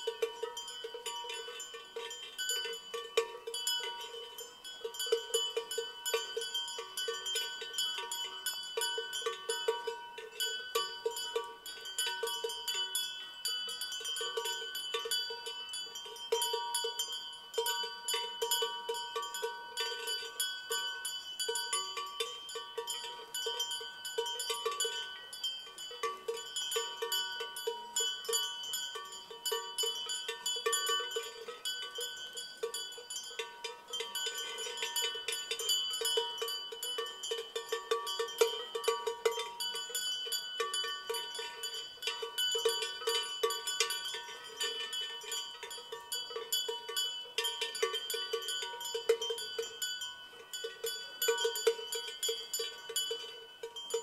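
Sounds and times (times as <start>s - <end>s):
cowbells ringing: 0.0s - 54.0s.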